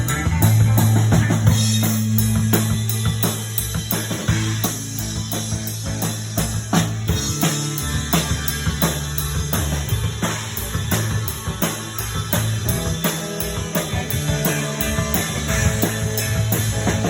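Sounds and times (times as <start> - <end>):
bass line: 0.0 - 17.0
drum kit beat: 0.0 - 17.0.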